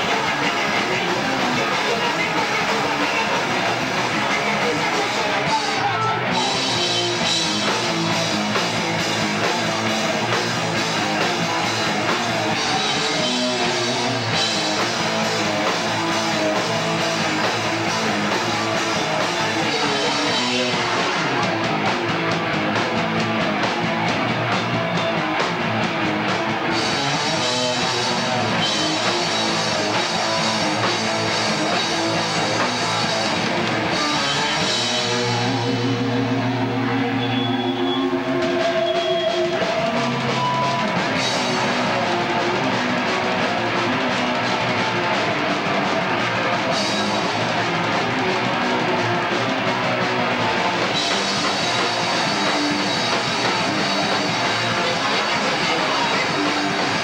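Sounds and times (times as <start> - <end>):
live punk rock band playing: 0.0 - 57.0.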